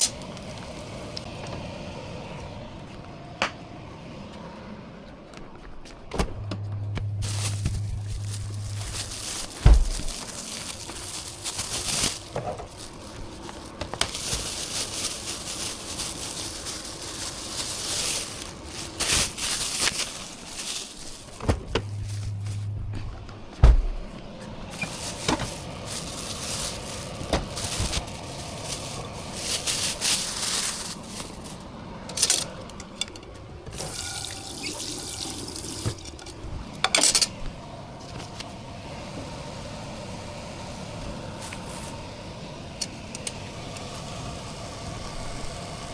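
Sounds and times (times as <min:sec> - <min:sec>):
low hum: 0:00.0 - 0:45.9.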